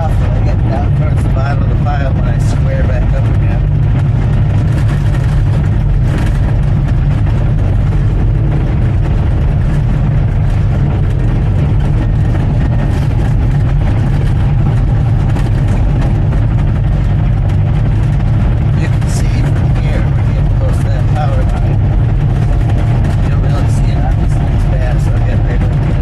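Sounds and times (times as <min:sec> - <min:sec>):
heavy diesel engine rumbling: 0:00.0 - 0:26.0.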